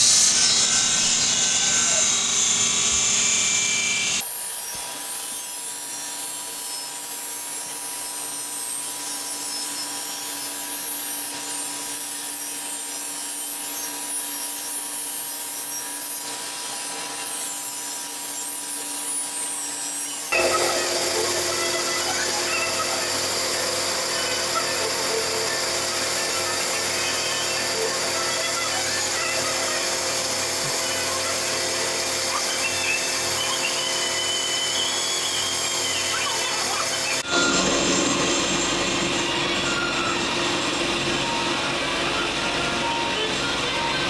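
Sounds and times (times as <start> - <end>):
grinding machinery hiss and hum: 0.0 - 44.0
knife blade on belt grinder: 0.0 - 44.0.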